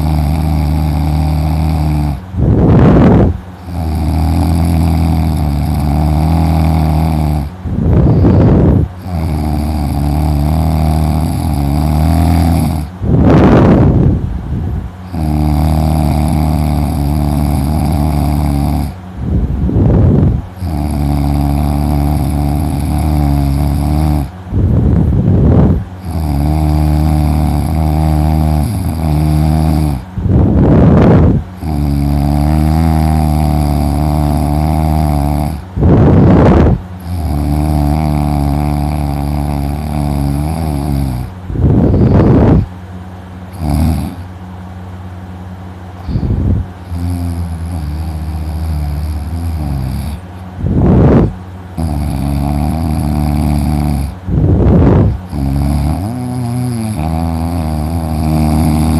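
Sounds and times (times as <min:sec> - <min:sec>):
man snoring: 0:00.0 - 0:42.7, 0:43.5 - 0:44.3, 0:46.0 - 0:58.9.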